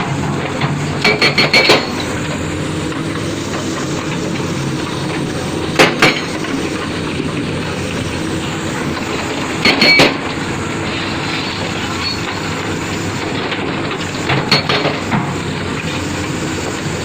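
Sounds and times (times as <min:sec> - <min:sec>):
heavy machinery running: 0:00.0 - 0:17.0.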